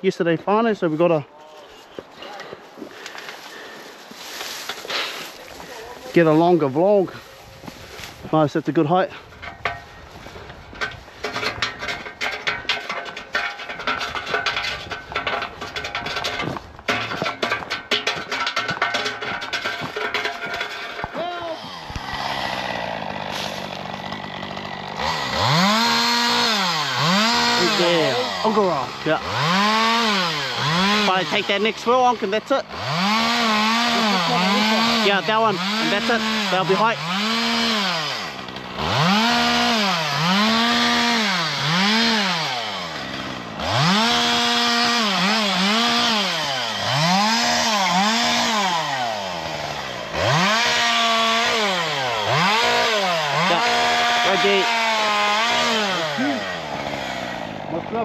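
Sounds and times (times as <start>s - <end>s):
chainsaw idling and revving: 2.9s - 58.0s.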